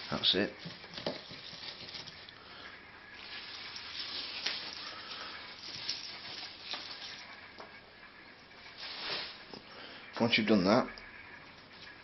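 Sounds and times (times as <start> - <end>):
rustling of plants: 0.0 - 10.9
steady hiss: 0.0 - 12.0.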